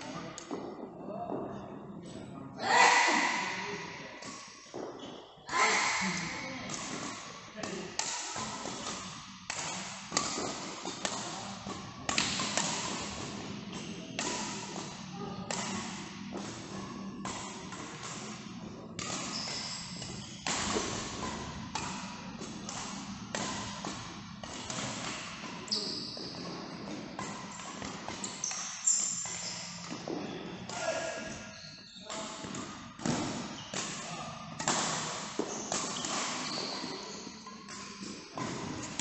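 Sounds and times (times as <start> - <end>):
rackets hitting shuttlecock: 5.7 - 31.6, 32.2 - 39.0.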